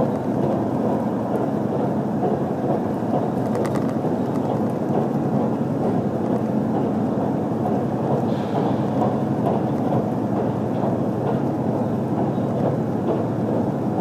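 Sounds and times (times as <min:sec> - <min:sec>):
train rumble inside cabin: 0:00.0 - 0:14.0.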